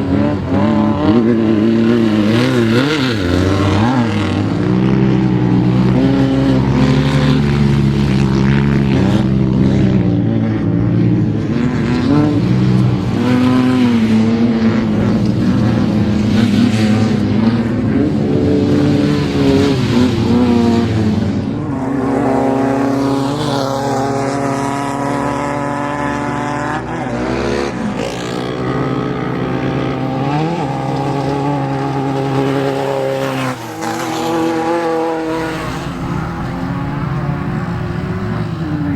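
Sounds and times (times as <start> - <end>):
race car engines revving: 0.0 - 38.9.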